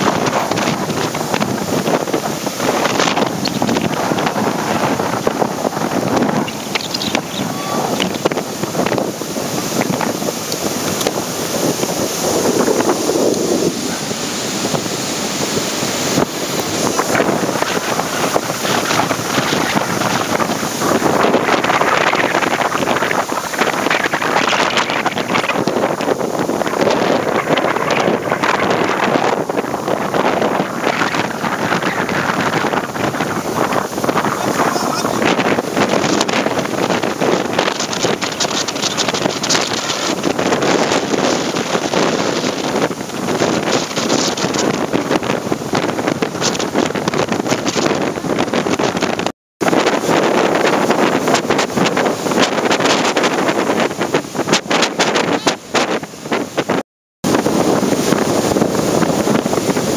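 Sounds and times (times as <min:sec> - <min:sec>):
breaking surf: 0:00.0 - 0:59.9
wind buffeting microphone: 0:00.0 - 0:59.9.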